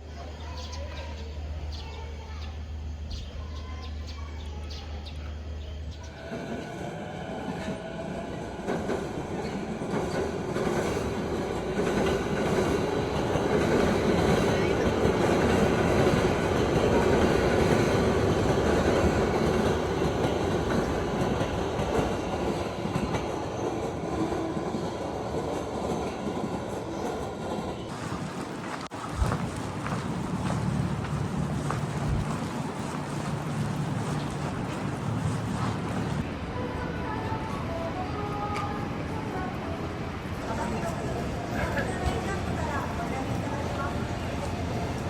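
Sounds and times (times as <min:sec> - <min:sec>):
train rumbling on rails: 0:00.0 - 0:45.0.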